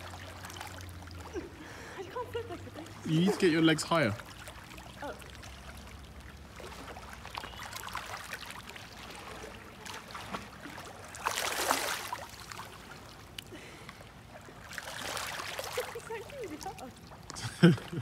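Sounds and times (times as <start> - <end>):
lake water lapping: 0.0 - 18.0
water splashes: 0.0 - 18.0.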